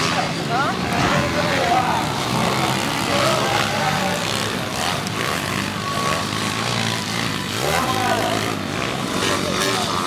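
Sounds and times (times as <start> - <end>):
pit bike engines buzzing: 0.0 - 10.0.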